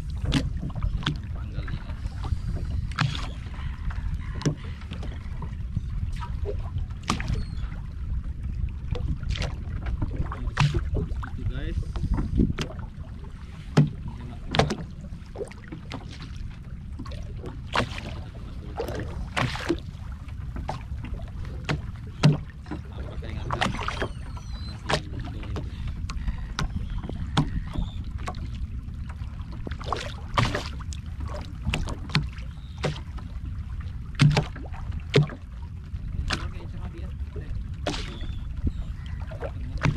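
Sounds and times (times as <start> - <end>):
water knocks and splashes: 0.0 - 1.8, 2.5 - 39.9
low water rumble: 0.0 - 39.9.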